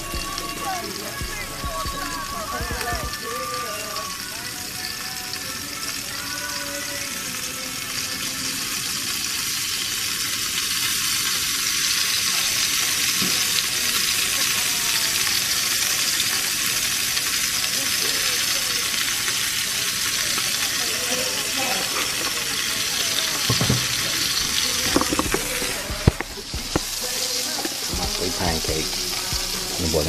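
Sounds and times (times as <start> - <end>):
batter sizzling on griddle: 0.0 - 30.0.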